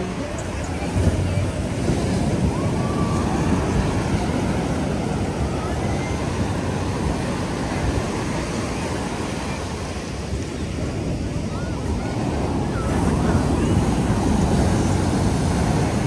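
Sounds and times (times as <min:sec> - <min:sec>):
faint distant voices: 0:00.0 - 0:16.0
surf rushing onto beach: 0:00.0 - 0:16.0.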